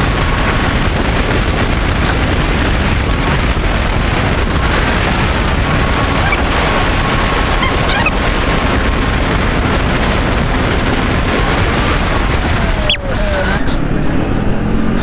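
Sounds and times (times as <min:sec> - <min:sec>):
motorcycle engine: 0:00.0 - 0:13.6
road noise: 0:00.0 - 0:13.6
wind buffeting microphone: 0:00.0 - 0:13.6.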